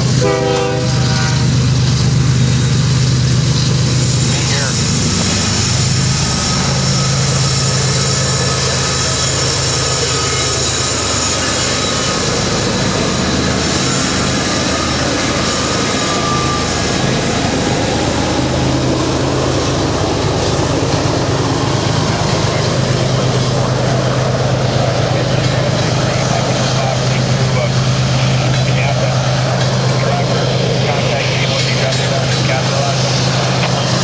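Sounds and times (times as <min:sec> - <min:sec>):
diesel locomotive engines droning: 0:00.0 - 0:34.0
freight cars rumbling over rails: 0:00.0 - 0:34.0.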